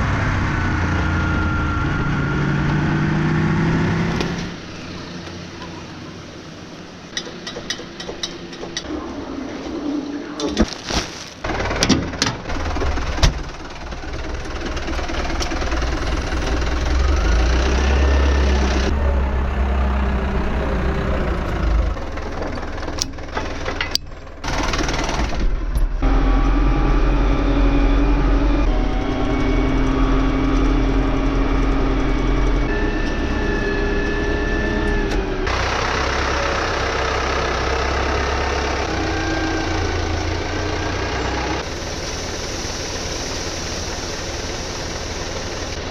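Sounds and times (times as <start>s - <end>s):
vehicle engine rumbling: 0.0s - 45.9s.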